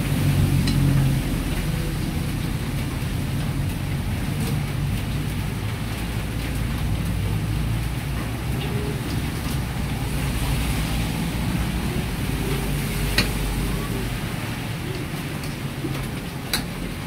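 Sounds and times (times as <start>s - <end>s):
gas burner rumble: 0.0s - 17.0s.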